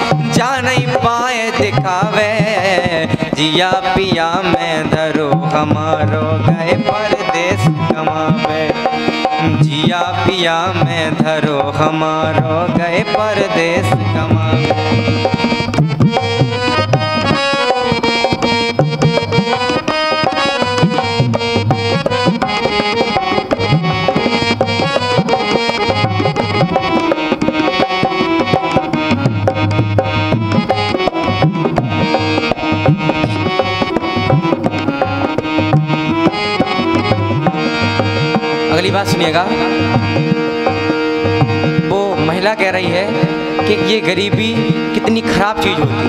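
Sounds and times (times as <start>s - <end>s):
harmonium melody: 0.0s - 46.0s
tabla beat: 0.0s - 46.0s.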